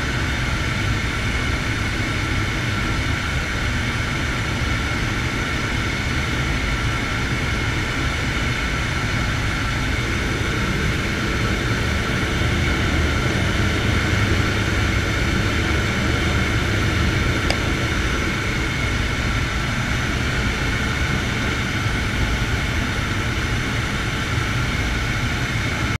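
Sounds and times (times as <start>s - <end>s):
high engine whine: 0.0s - 26.0s
turboprop engine drone: 0.0s - 26.0s.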